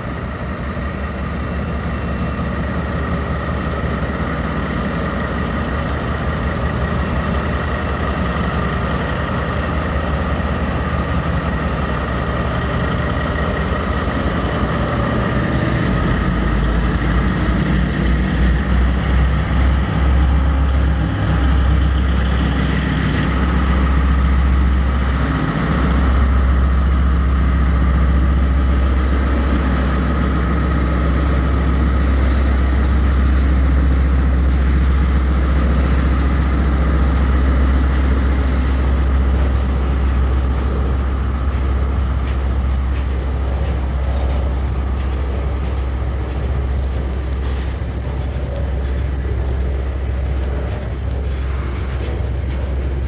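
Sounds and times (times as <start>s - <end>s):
freight train rolling past: 0.0s - 53.0s.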